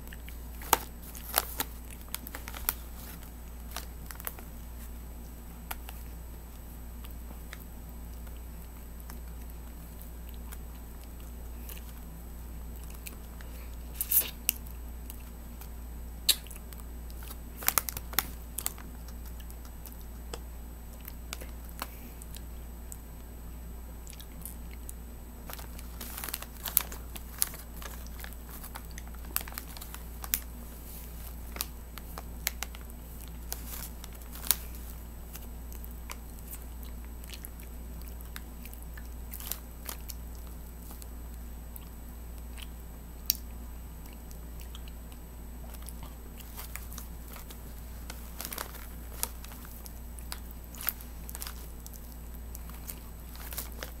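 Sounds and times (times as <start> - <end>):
chewing and lip smacks: 0.0 - 54.0
steady low hum: 0.0 - 54.0.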